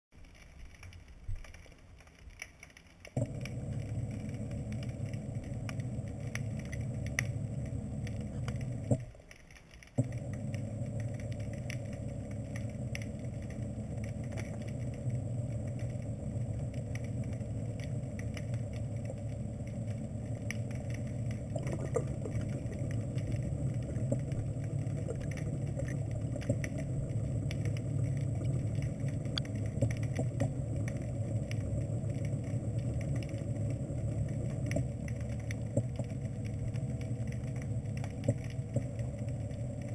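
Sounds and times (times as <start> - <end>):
underwater thruster motors humming: 3.2 - 9.1, 10.0 - 39.9.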